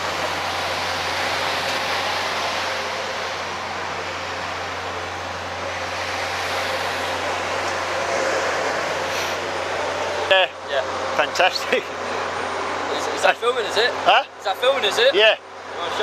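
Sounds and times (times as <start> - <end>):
constant low hum: 0.0 - 16.0
steady rushing noise: 0.0 - 16.0.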